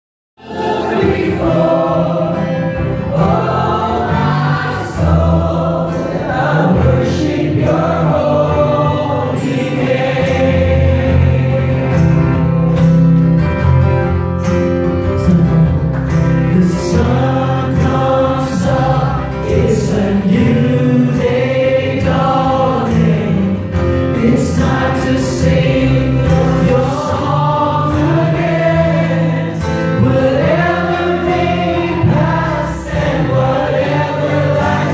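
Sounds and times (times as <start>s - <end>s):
worship leader singing: 0.4s - 12.2s, 16.5s - 34.9s
congregation singing: 0.4s - 13.2s, 15.2s - 34.9s
acoustic guitar: 0.4s - 34.9s.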